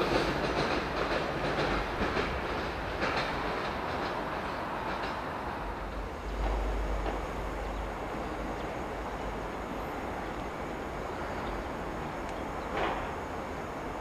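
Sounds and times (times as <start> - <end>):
train rumbling on tracks: 0.0 - 14.0.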